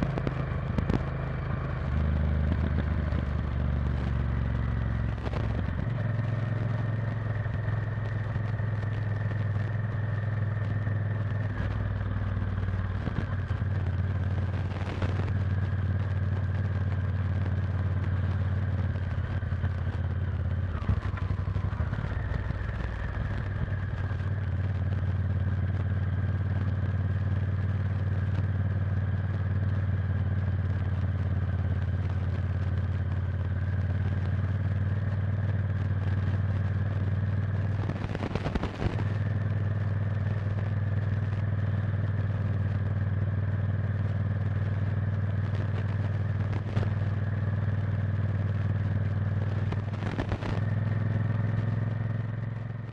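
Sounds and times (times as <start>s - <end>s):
motorcycle engine running: 0.0s - 52.9s
road and wind noise: 0.0s - 52.9s.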